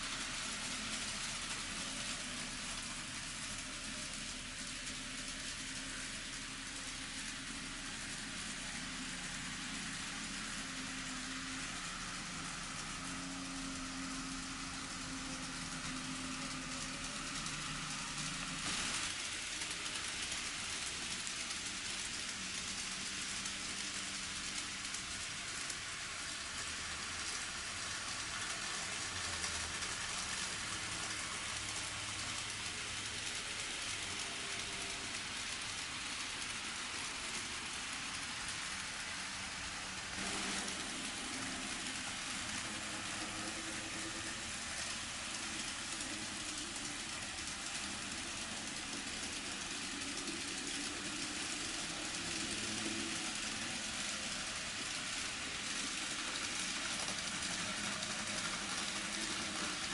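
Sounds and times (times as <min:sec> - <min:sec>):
model trains whirring on track: 0:00.0 - 0:59.9.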